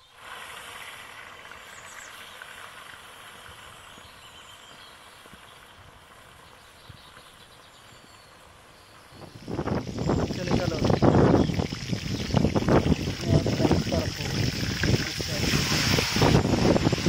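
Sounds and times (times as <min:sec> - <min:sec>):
fish sizzling in hot oil: 0:00.0 - 0:07.4, 0:08.3 - 0:17.0.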